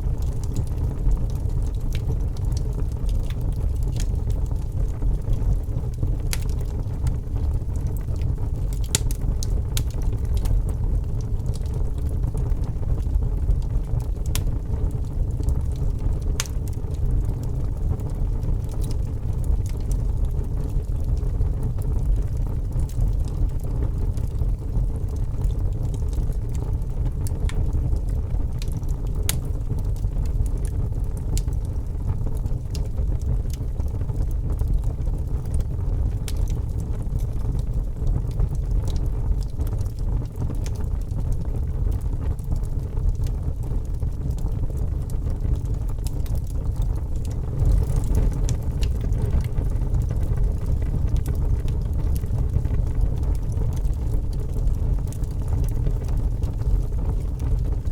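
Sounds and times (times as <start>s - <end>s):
fire low rumble: 0.0s - 57.9s
crackles and pops of logs: 0.1s - 57.9s.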